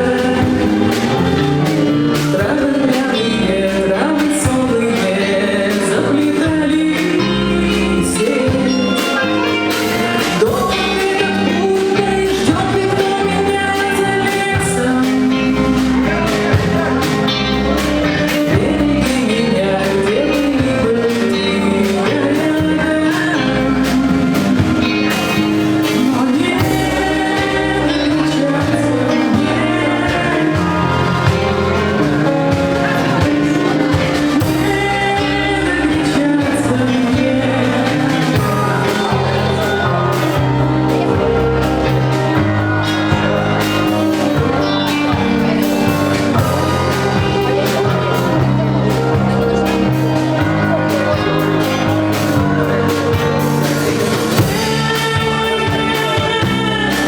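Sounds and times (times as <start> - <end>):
folk-rock band playing live: 0.0 - 57.0
person singing: 0.0 - 57.0
steady drum beats: 0.0 - 57.0.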